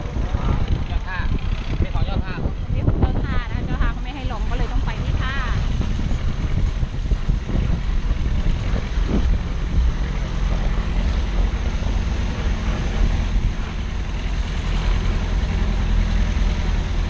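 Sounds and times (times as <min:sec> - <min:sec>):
vehicle engine rumble: 0:00.0 - 0:17.0
wind noise on microphone: 0:00.0 - 0:17.0.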